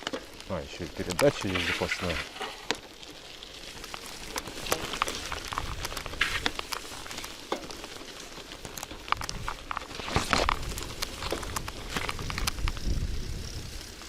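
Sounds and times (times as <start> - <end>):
bicycle tyres churning through mud: 0.0 - 14.0.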